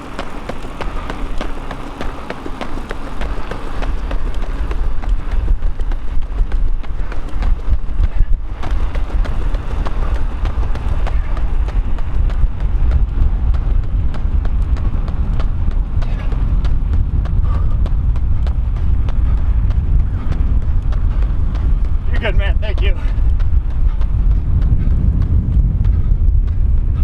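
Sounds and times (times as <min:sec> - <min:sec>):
running footsteps on pavement: 0:00.0 - 0:27.0
wind rumble on microphone: 0:00.0 - 0:27.0.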